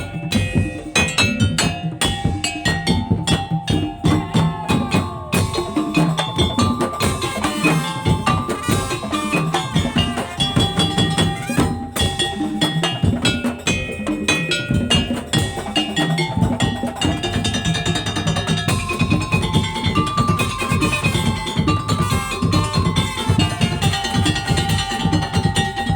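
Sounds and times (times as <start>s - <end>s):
drums: 0.0s - 25.9s.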